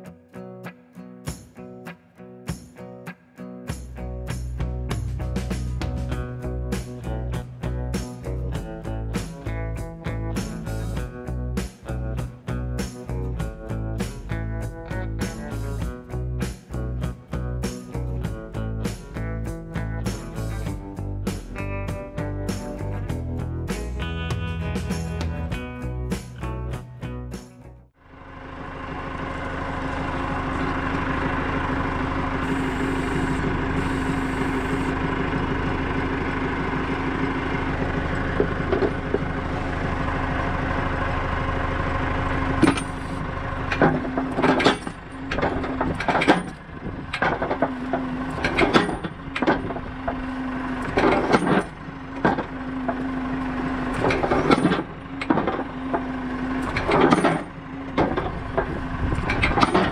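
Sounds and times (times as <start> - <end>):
tractor diesel engine running: 3.8 - 59.9.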